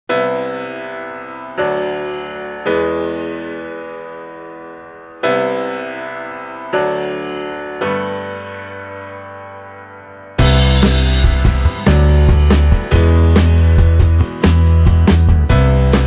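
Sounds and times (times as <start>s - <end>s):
slow piano chords: 0.1s - 16.0s.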